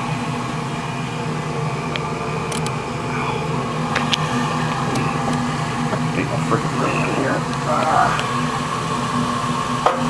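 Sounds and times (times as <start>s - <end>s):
furnace motor humming: 0.0s - 10.0s.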